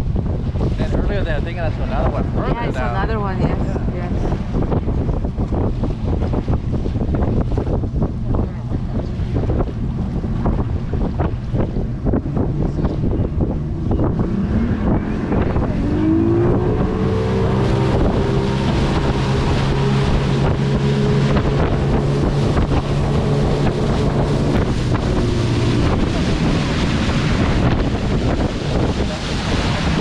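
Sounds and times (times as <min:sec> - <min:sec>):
motorboat engine speeding up: 0:00.0 - 0:30.0
wind buffeting microphone: 0:00.0 - 0:30.0.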